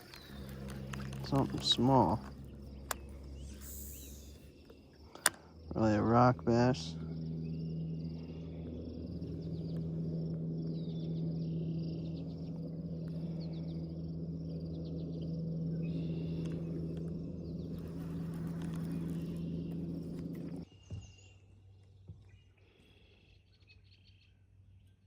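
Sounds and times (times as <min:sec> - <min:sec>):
boat motor humming: 0:00.0 - 0:21.3
faint bird chirps: 0:00.0 - 0:21.5.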